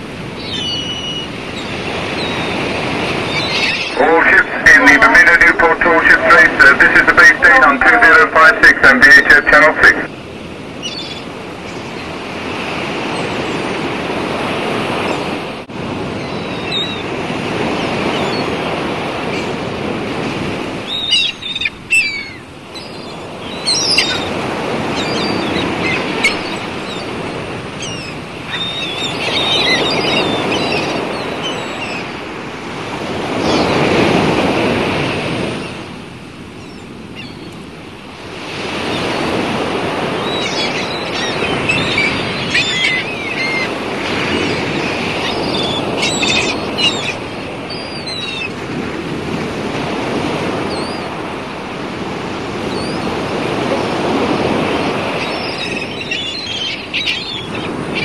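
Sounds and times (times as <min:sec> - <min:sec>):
sea waves washing in: 0:00.0 - 0:58.0
birds chirping: 0:00.3 - 0:10.1, 0:10.7 - 0:13.9, 0:16.1 - 0:34.5, 0:36.6 - 0:37.7, 0:38.4 - 0:51.5, 0:52.5 - 0:58.0.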